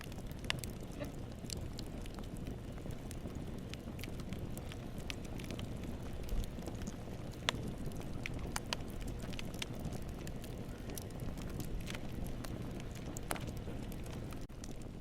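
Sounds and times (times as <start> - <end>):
campfire flames rumbling: 0.0 - 15.0
fire crackles and pops: 0.0 - 15.0.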